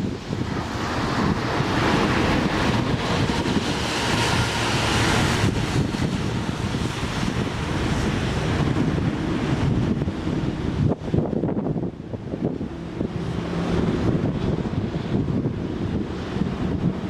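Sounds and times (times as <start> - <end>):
steady rushing noise: 0.0 - 17.0
wind buffeting microphone: 0.0 - 17.0.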